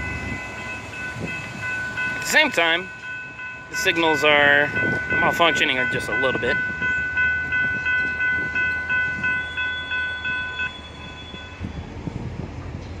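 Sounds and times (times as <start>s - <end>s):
railroad crossing bell ringing: 0.0s - 11.8s.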